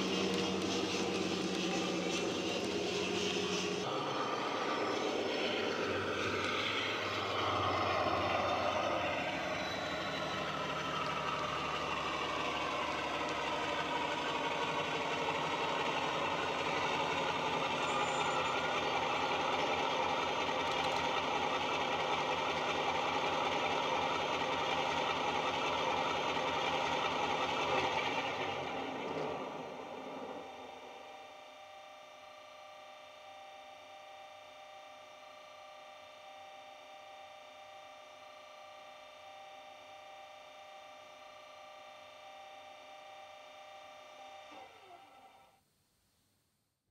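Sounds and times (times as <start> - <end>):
diesel locomotive engine: 0.0 - 45.4.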